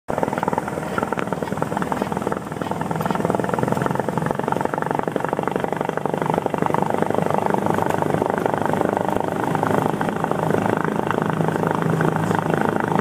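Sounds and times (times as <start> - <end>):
piston aircraft engine droning: 0.1 - 13.0.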